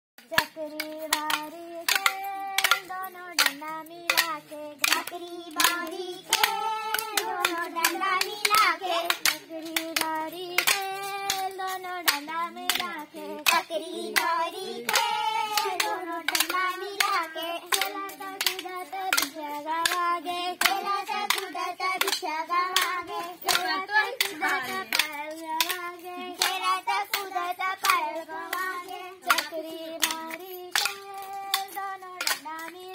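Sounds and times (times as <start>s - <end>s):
wooden sticks striking: 0.2s - 32.9s
girls singing: 0.3s - 32.9s.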